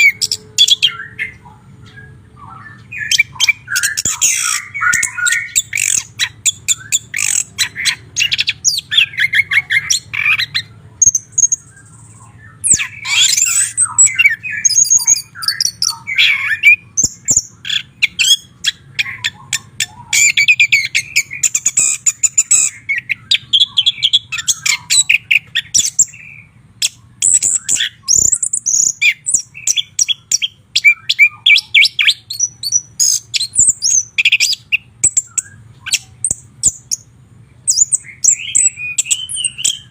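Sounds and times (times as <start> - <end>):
bird singing whistles: 0.0 - 39.9.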